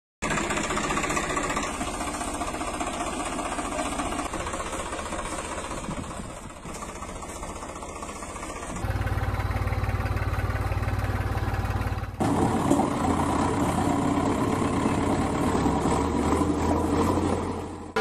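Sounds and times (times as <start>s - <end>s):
engine low chugging: 0.2s - 18.0s
fuller engine sound: 0.2s - 18.0s.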